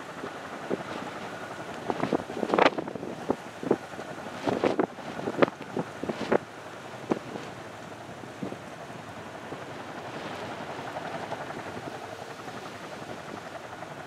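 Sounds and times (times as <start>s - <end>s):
helicopter rotors chopping: 0.0s - 14.0s.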